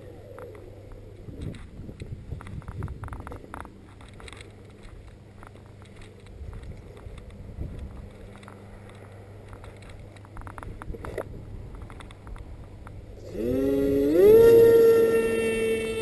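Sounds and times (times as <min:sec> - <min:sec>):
electric motor and propeller whine: 0:00.0 - 0:16.0.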